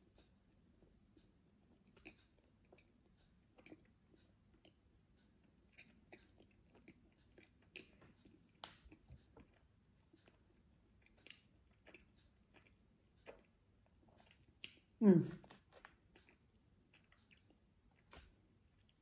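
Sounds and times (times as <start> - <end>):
chewing with wet mouth clicks: 0.0 - 19.0.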